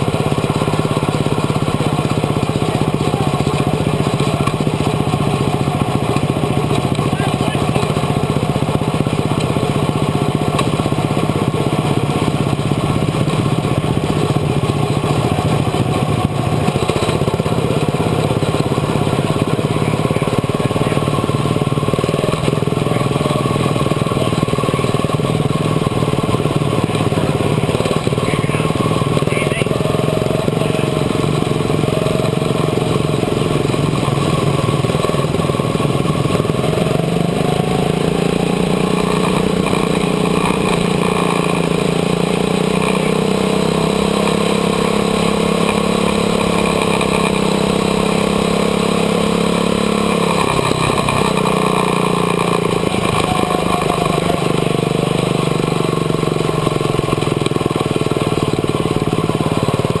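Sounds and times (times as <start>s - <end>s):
small race car engine running: 0.0s - 60.0s.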